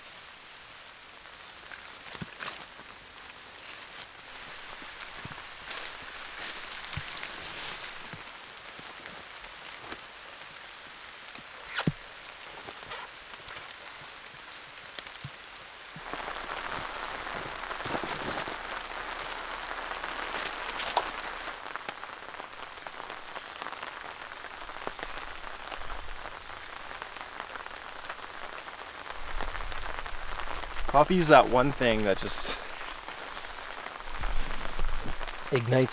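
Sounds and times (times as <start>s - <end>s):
rain falling on a tarp: 0.0s - 35.9s
steady rain: 0.0s - 35.9s.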